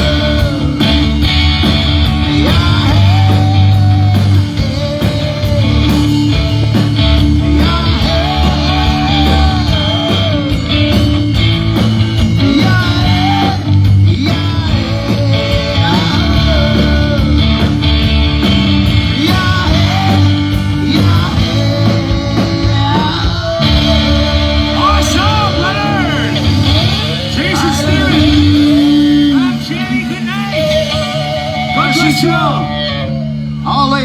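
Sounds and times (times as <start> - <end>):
bending lead guitar: 0.0 - 34.0
live rock band playing: 0.0 - 34.0.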